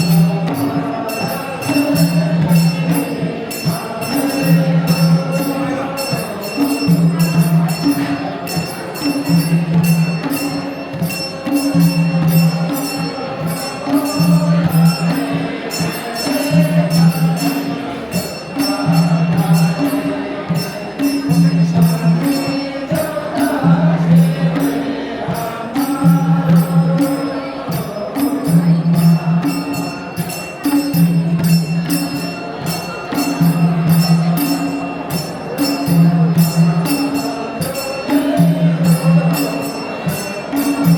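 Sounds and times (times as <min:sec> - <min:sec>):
drum beating: 0:00.0 - 0:40.9
jingling percussion: 0:00.0 - 0:40.9.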